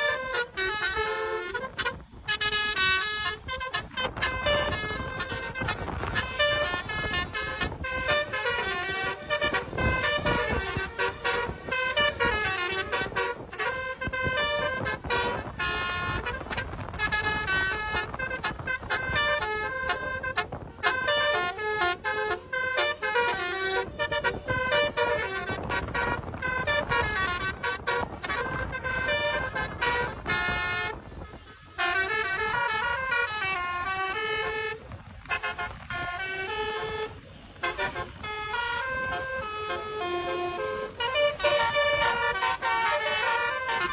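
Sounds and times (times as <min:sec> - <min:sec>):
bus engines rumbling: 0:00.0 - 0:43.9
multi-tone bus air horns: 0:00.0 - 0:43.9.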